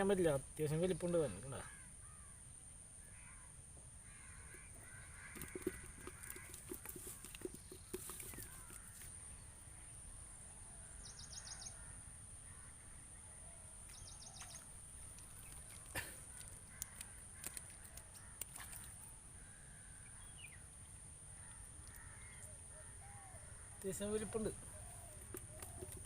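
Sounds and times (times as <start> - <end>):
distant birds calling: 0.7 - 26.0.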